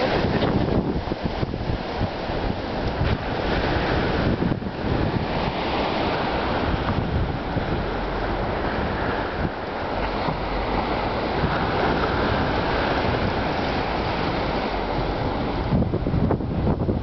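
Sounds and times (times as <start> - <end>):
waves washing on shore: 0.0 - 17.0
wind buffeting microphone: 0.0 - 17.0.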